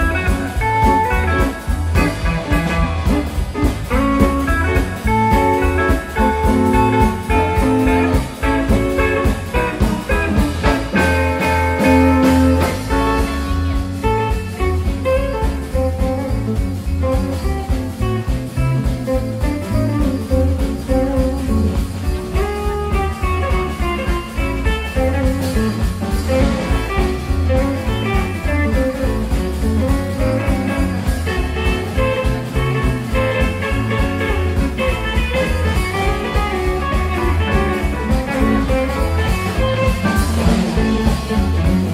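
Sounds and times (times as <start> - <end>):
drum kit beat: 0.0 - 41.9
electric bass: 0.0 - 41.9
electric guitars playing: 0.0 - 41.9.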